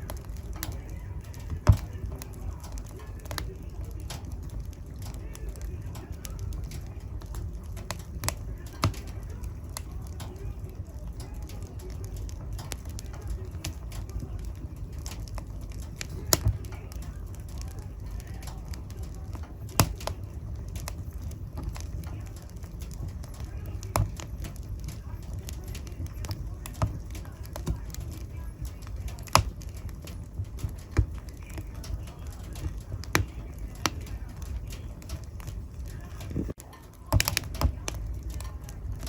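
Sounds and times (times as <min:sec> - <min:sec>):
fire crackling in fireplace: 0:00.0 - 0:39.0
sharp fire pops: 0:00.0 - 0:39.0.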